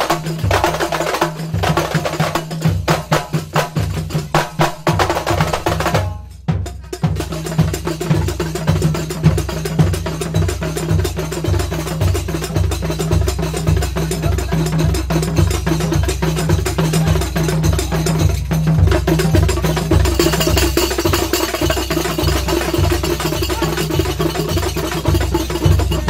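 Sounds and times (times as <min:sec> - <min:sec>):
wood block percussion clacking: 0:00.0 - 0:26.0.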